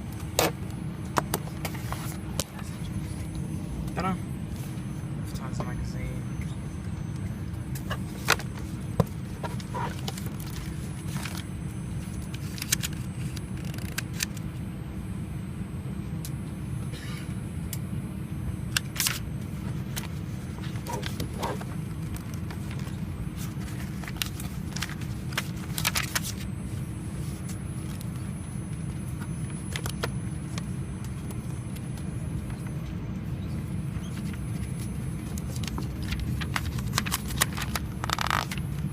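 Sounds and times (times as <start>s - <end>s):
airplane cabin hum: 0.0s - 38.9s.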